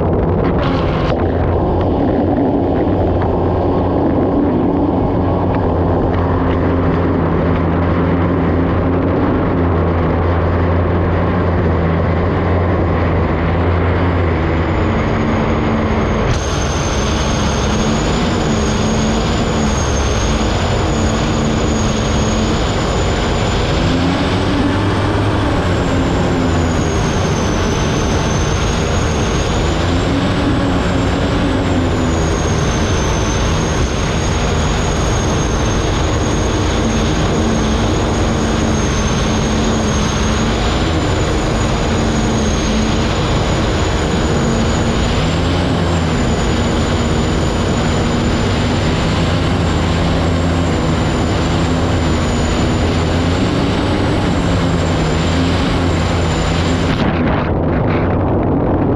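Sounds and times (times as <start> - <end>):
high turbine whine: 0.0 - 58.9
loud rushing noise: 0.0 - 58.9.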